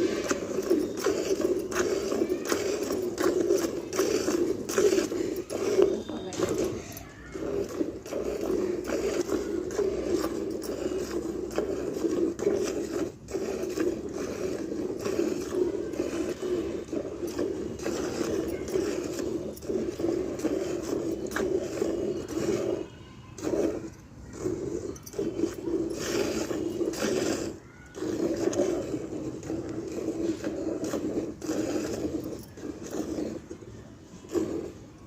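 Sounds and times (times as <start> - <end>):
milk squirting into a pail: 0.0 - 35.0.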